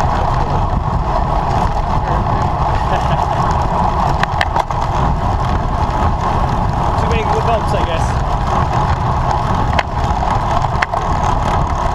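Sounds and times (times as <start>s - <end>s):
road rumble: 0.0s - 11.9s
wind rush on microphone: 0.0s - 11.9s.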